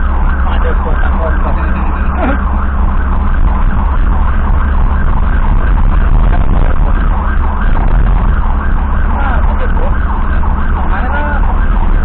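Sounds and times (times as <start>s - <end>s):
ambulance siren yelping: 0.0s - 12.0s
engine and road rumble: 0.0s - 12.0s.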